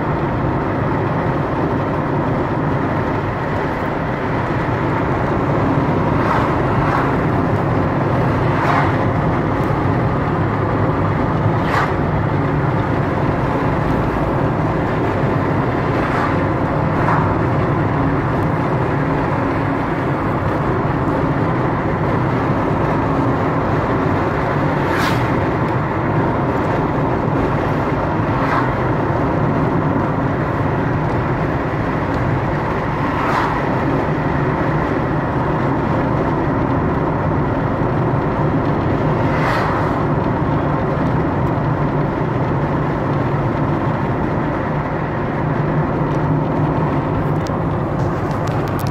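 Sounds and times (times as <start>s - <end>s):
car cabin road noise: 0.0s - 48.9s.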